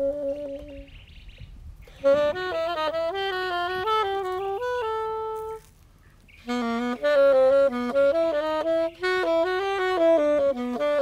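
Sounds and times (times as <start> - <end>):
solo saxophone improvising: 0.0 - 1.0, 1.8 - 11.0.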